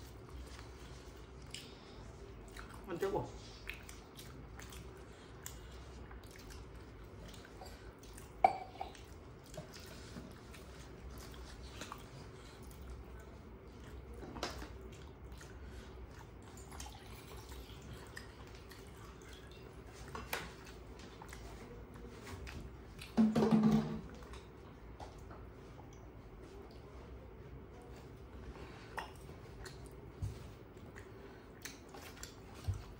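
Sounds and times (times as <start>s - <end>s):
chewing: 0.0s - 23.2s, 28.3s - 32.9s.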